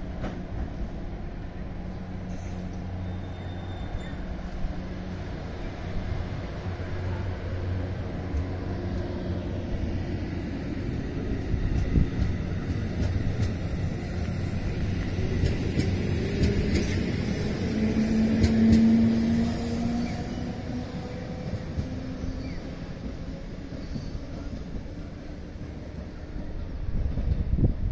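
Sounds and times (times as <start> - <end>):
train motors and wheels rumble: 0.0 - 27.9.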